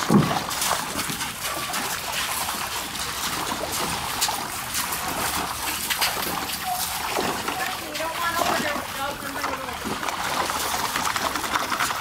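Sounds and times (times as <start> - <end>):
dogs splashing in water: 0.0 - 12.0.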